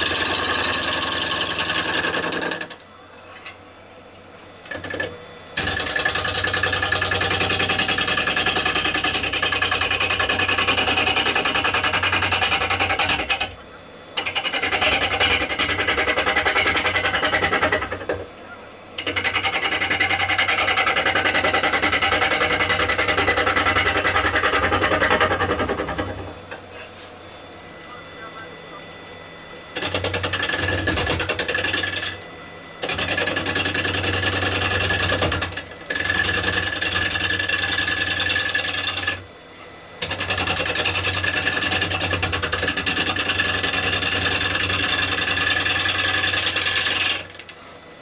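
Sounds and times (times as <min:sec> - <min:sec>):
gouge cutting spinning wood: 0:00.0 - 0:02.8, 0:05.6 - 0:13.6, 0:14.2 - 0:18.2, 0:19.0 - 0:26.4, 0:29.8 - 0:32.2, 0:32.8 - 0:39.2, 0:40.0 - 0:47.5
wood lathe humming: 0:00.0 - 0:02.8, 0:05.6 - 0:13.5, 0:14.2 - 0:18.1, 0:19.0 - 0:26.4, 0:29.7 - 0:39.2, 0:40.0 - 0:47.5.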